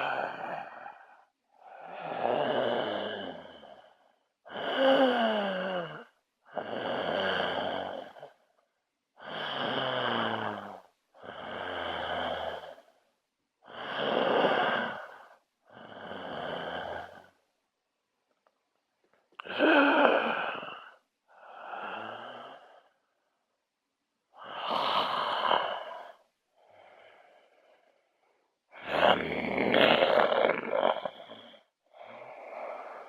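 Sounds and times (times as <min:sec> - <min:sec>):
person snoring: 0:00.0 - 0:08.4, 0:09.2 - 0:12.9, 0:13.6 - 0:17.4, 0:19.4 - 0:23.0, 0:24.3 - 0:33.0.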